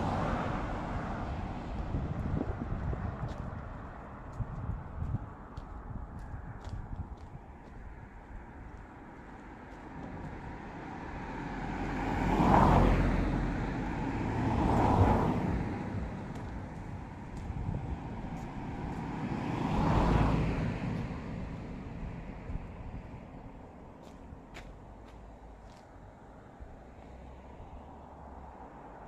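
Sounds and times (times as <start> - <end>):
cars passing by: 0.0 - 29.0.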